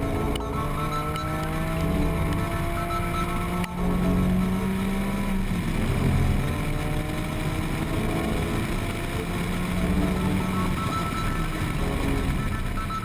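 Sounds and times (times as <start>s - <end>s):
car engine running at speed: 0.0s - 13.0s.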